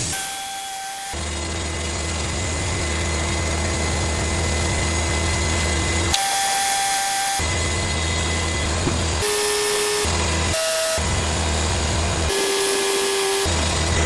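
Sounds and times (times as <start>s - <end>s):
band sawmill humming: 0.0s - 14.0s
high whine: 0.0s - 14.0s.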